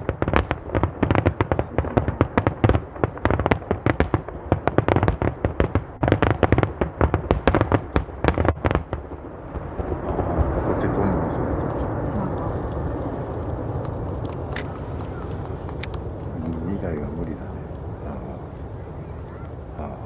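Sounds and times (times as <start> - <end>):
fireworks cracking and banging: 0.0 - 20.0.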